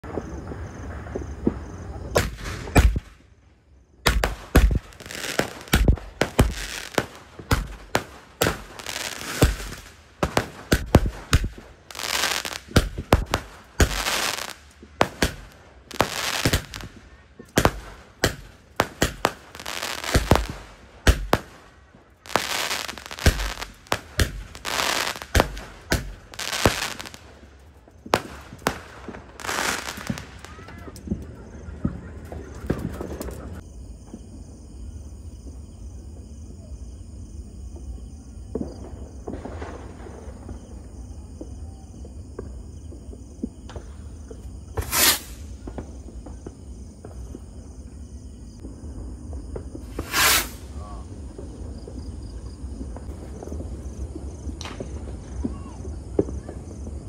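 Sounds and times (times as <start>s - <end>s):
distant firework pops: 0.0s - 3.2s, 4.0s - 34.4s, 37.7s - 47.6s, 48.5s - 57.0s
fireworks bangs and crackling: 0.0s - 57.0s
insects chirring: 0.0s - 57.0s.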